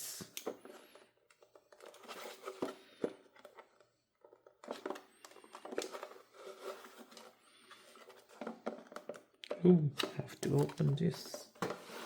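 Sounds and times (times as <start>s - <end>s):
packaging rustling: 1.3s - 9.5s, 10.1s - 12.0s.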